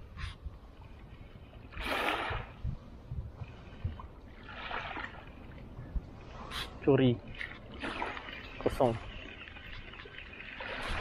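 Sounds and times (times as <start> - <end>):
water lapping at shoreline: 0.0 - 11.0
wind rumble on microphone: 0.0 - 11.0.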